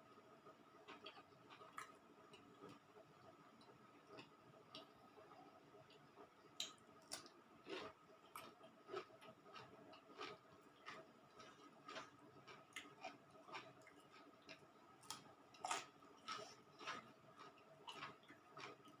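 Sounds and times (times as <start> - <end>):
person chewing food: 0.8 - 19.0.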